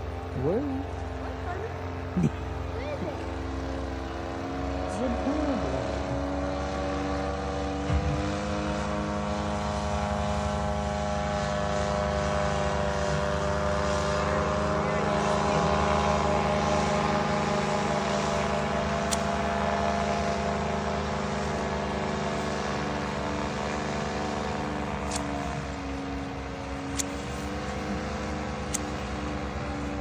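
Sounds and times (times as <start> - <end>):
engine drone: 0.0 - 30.0.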